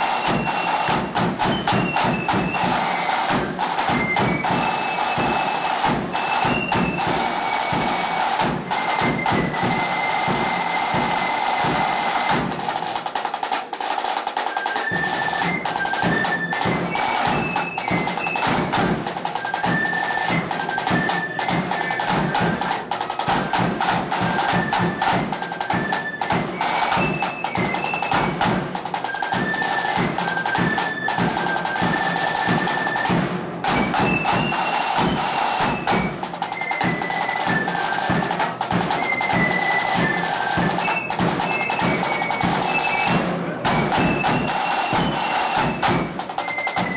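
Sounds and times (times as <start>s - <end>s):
flutes playing a march: 0.0s - 46.9s
rapid snare drumming: 0.0s - 46.9s.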